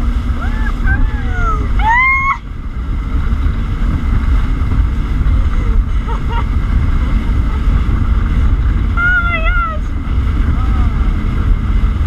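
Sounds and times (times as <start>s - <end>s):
jet ski engine: 0.0s - 12.0s
water rushing: 0.0s - 12.0s
wind buffeting microphone: 0.0s - 12.0s.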